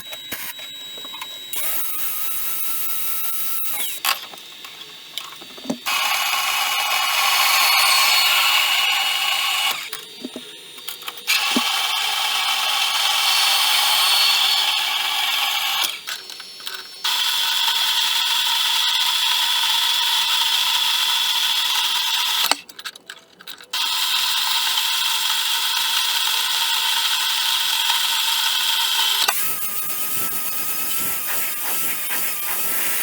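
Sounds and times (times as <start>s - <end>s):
power tool whining: 0.0s - 22.6s, 23.8s - 33.0s.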